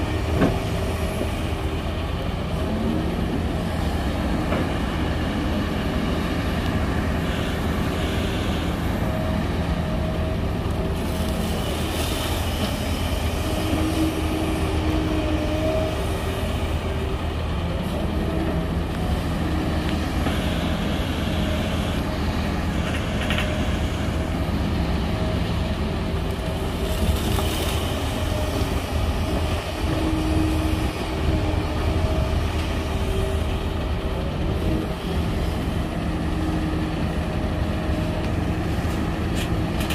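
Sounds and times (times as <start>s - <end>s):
excavator diesel engine working: 0.0s - 39.9s.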